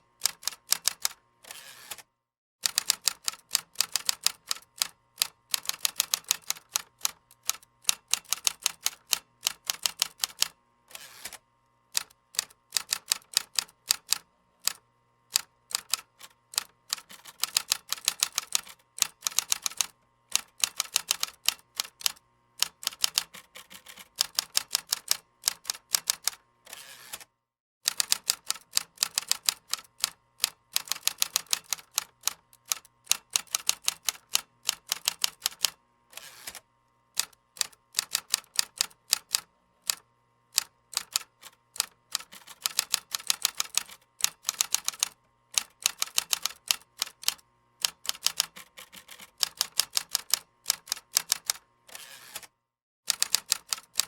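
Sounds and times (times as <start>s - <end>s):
typing on a computer keyboard: 0.2s - 1.2s, 2.6s - 10.6s, 12.0s - 26.4s, 27.9s - 35.8s, 37.2s - 40.0s, 40.6s - 52.5s, 53.1s - 54.0s.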